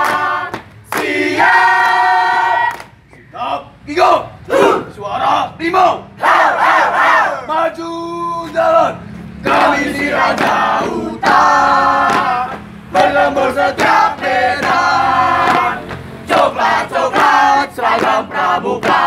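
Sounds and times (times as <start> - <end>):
young voices chanting a cheer: 0.0 - 7.8, 8.4 - 19.0.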